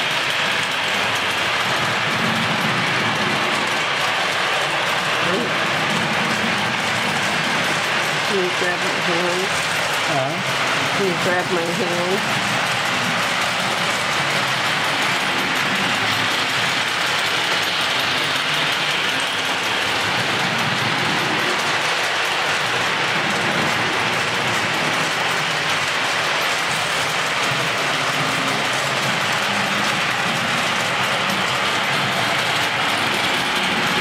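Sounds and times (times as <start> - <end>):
model train rattling on track: 0.0 - 34.0.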